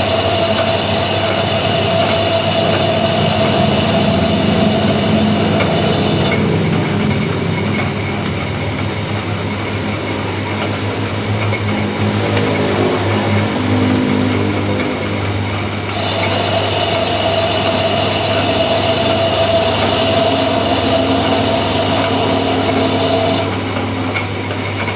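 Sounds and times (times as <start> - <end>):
high whine: 0.0 - 24.8
metal lathe humming: 0.0 - 24.9.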